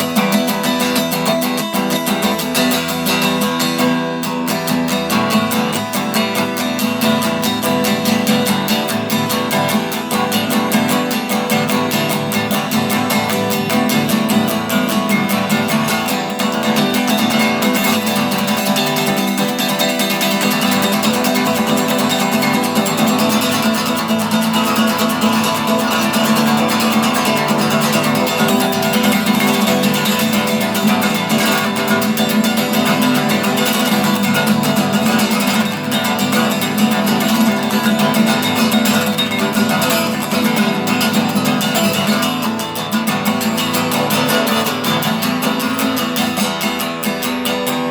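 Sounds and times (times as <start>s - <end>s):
guitar strummed fast: 0.0s - 47.9s.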